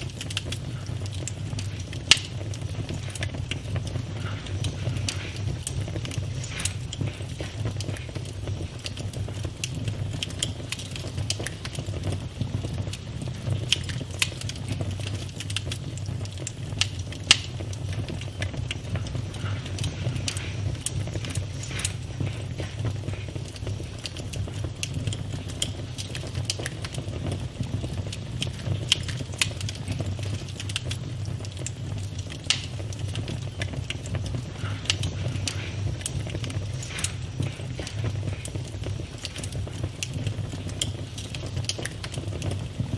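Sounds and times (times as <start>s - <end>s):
crackles and pops of burning wood: 0.0s - 42.9s
low rumble of flames: 0.0s - 42.9s.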